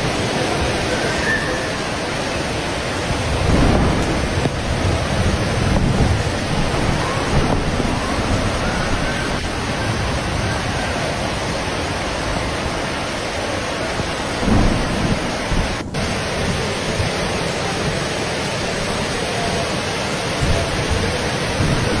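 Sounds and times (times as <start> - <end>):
rolling thunder: 0.0 - 18.0, 20.3 - 22.0
steady rain: 0.0 - 22.0.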